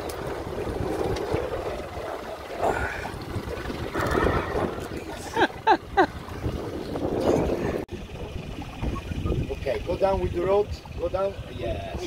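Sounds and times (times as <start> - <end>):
sea noise: 0.0 - 12.0
wind: 0.0 - 12.0.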